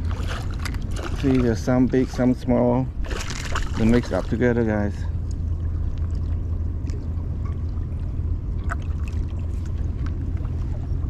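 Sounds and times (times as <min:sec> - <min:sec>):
low rumble: 0:00.0 - 0:11.0
water sloshing and gurgling: 0:00.0 - 0:11.0.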